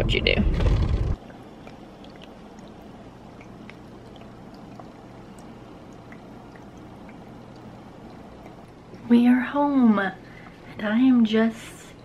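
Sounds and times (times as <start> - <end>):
diffuser watery gurgle: 1.2 - 11.0.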